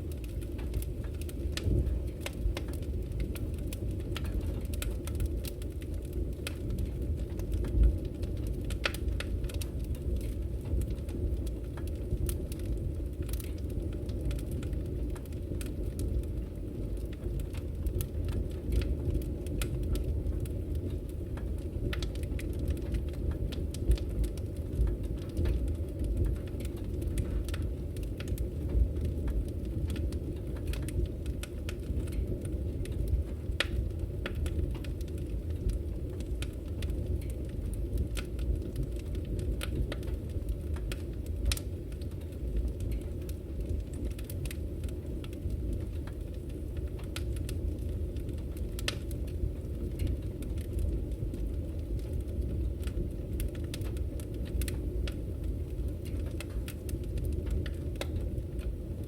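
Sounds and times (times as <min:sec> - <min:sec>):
wood fire crackling in fireplace: 0:00.0 - 0:59.0.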